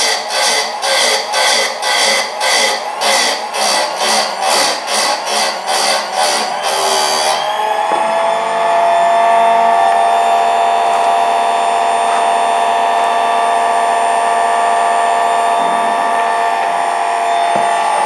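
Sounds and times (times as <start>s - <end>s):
sharpener motor whining: 0.0s - 18.0s.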